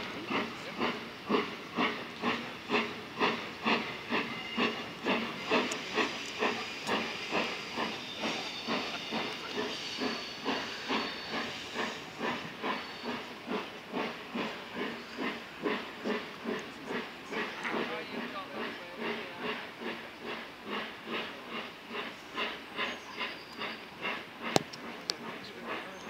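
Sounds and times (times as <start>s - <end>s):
steam hissing: 0.0s - 26.0s
steam locomotive exhaust beats: 0.0s - 26.0s.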